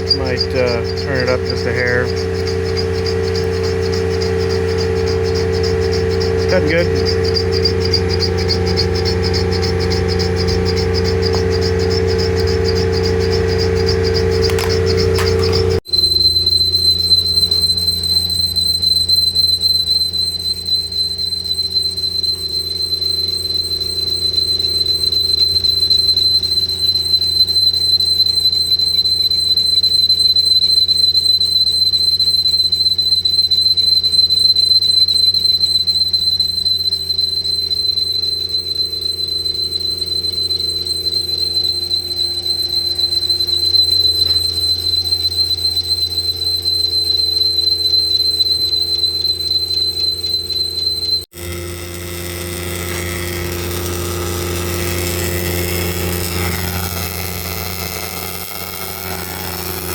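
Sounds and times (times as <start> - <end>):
boring machine cutting: 0.0 - 30.4, 33.0 - 59.9.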